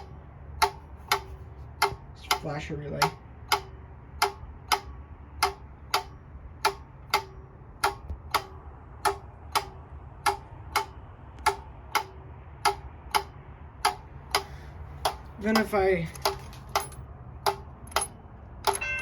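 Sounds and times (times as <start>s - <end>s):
flasher relay clicking: 0.0s - 19.0s
steady low hum: 0.0s - 19.0s.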